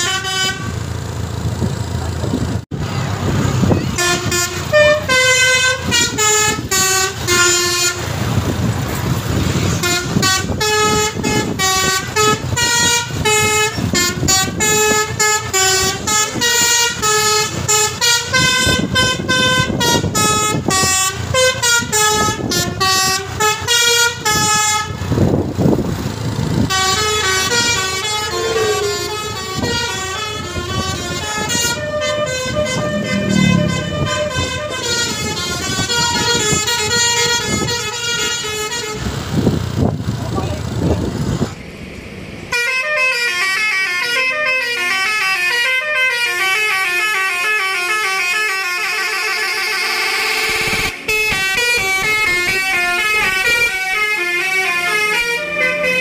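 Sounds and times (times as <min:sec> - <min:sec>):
bus musical horn melody: 0:00.0 - 0:00.9, 0:03.6 - 0:08.5, 0:09.4 - 0:25.2, 0:26.6 - 0:39.5, 0:42.5 - 0:56.0
traffic noise: 0:00.0 - 0:56.0.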